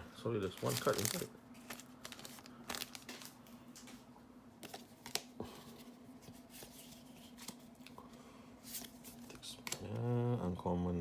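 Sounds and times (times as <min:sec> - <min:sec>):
cards rustling and clicking: 0:00.4 - 0:04.0, 0:04.6 - 0:10.2.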